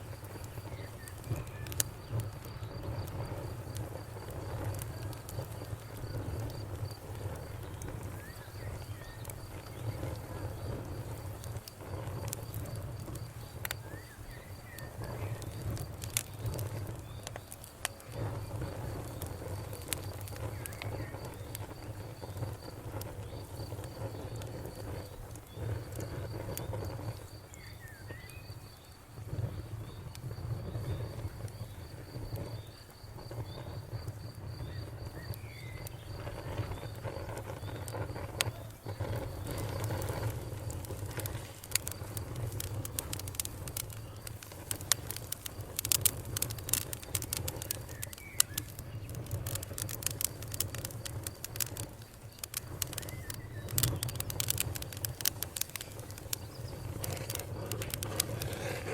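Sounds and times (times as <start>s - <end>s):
campfire crackling and popping: 0.0s - 58.9s
insect chirping: 0.0s - 58.9s.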